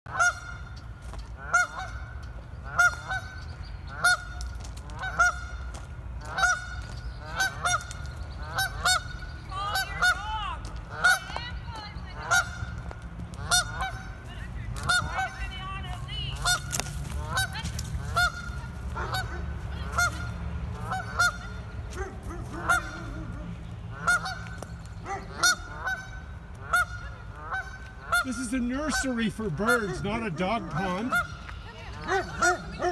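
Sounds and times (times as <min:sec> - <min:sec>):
goose alarm honks: 0:00.1 - 0:00.8, 0:01.4 - 0:12.8, 0:13.4 - 0:32.9.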